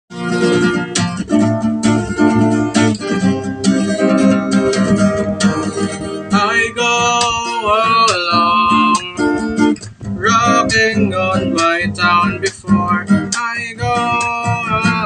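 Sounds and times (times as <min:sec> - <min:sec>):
bending melody line: 0:00.1 - 0:15.0
strummed guitar chords: 0:00.1 - 0:15.0.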